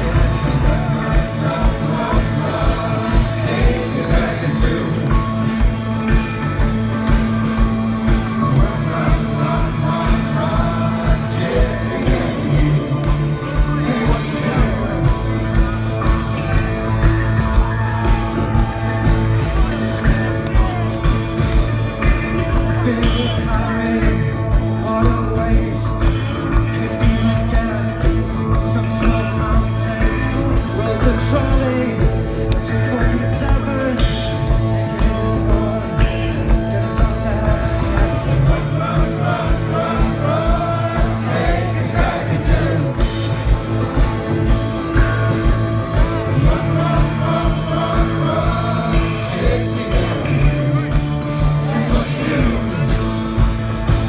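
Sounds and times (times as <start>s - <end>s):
person singing: 0.0s - 43.8s, 45.2s - 53.5s
driving drum beat: 0.0s - 54.0s
live rock band: 0.0s - 54.0s.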